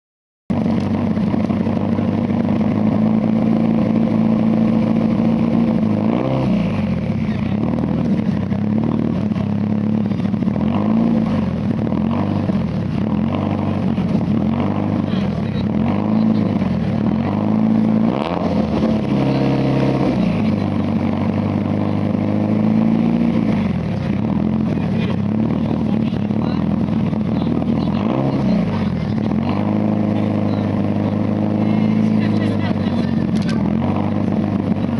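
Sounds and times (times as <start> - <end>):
car engine idling: 0.5 - 34.9.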